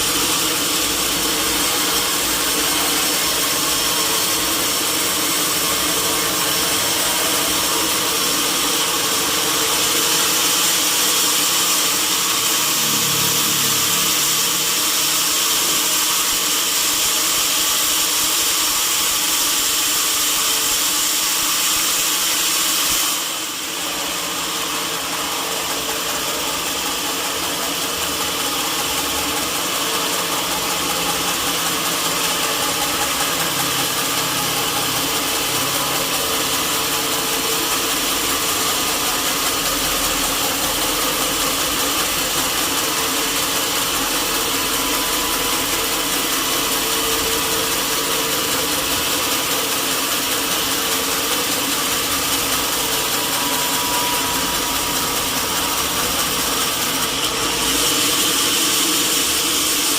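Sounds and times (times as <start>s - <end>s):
sawmill saw machinery running: 0.0s - 59.9s.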